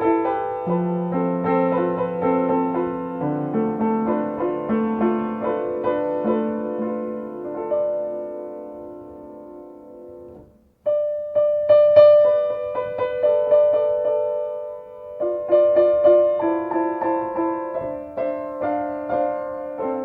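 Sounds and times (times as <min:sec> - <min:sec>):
solo piano: 0:00.0 - 0:20.0.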